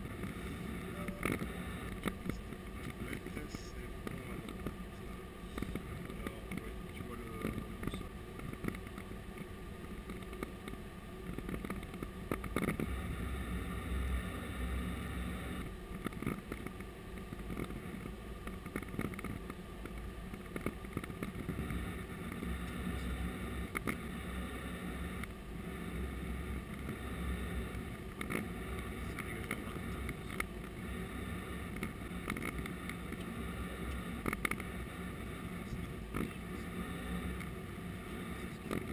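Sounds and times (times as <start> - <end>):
aircraft engines humming and rumbling: 0.0 - 38.9.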